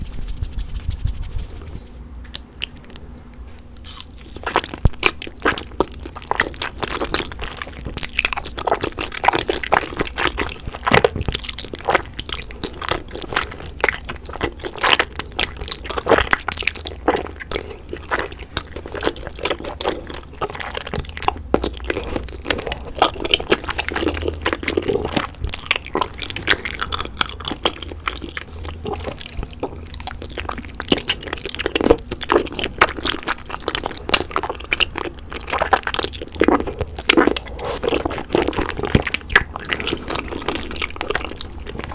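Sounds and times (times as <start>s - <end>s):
wet sticky chewing: 3.6s - 41.9s.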